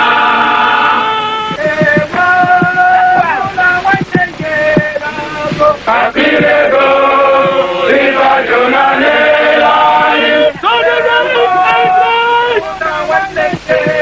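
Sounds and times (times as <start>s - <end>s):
men chanting: 0.0s - 14.0s.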